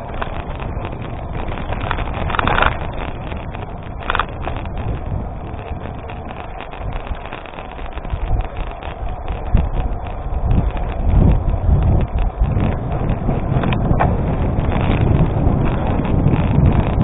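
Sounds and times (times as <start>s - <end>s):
bike clicks and rattles: 0.0s - 17.0s
tyres rolling over gravel: 0.0s - 17.0s
wind rushing over microphone: 0.0s - 17.0s.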